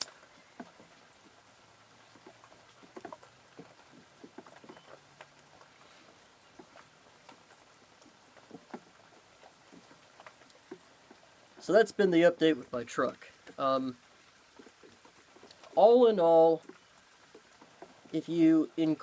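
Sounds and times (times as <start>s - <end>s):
rain drops dripping: 0.0s - 19.0s.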